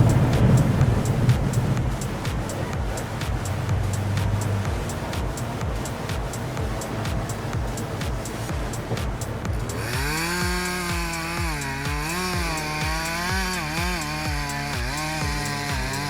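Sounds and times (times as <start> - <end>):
background music with steady beat: 0.0 - 16.0
chainsaw cutting: 0.0 - 16.0.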